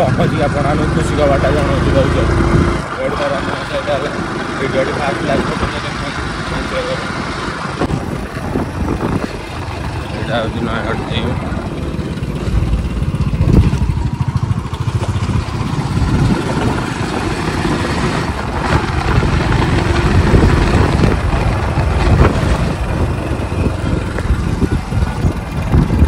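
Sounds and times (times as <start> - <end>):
motorcycle engine rumbling: 0.0 - 26.0.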